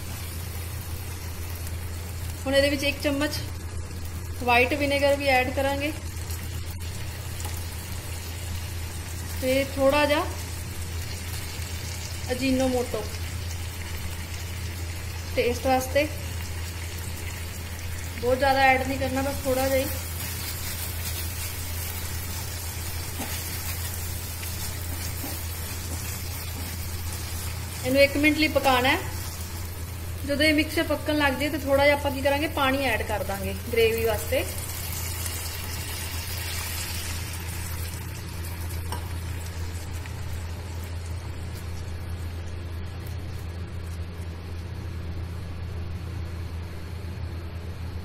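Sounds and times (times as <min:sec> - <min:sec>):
onions sizzling in frying pan: 0:00.0 - 0:42.8
steady low hum: 0:00.0 - 0:48.0.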